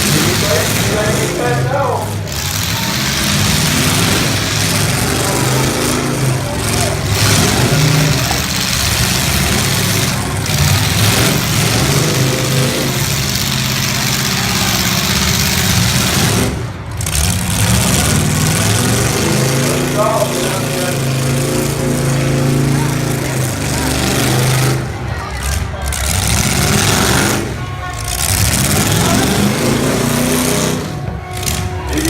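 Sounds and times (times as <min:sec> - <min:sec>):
car engines revving unevenly: 0:00.0 - 0:32.0
dense background din: 0:00.0 - 0:32.0.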